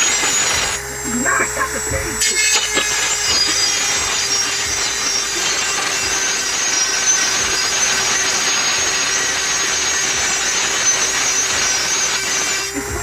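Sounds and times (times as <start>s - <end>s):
rotary tool grinding metal: 0.0s - 13.0s.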